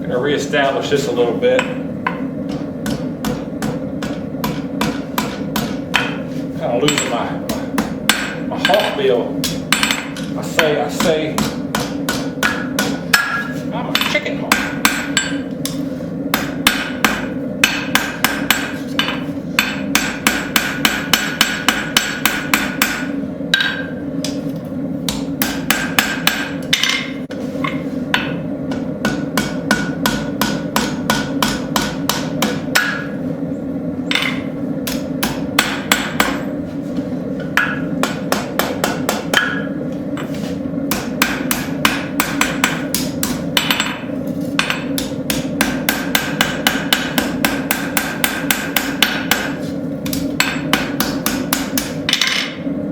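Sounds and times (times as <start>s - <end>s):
hammer striking steel on anvil: 1.6s - 24.4s, 25.1s - 33.2s, 34.1s - 36.5s, 37.4s - 40.3s, 40.9s - 52.7s.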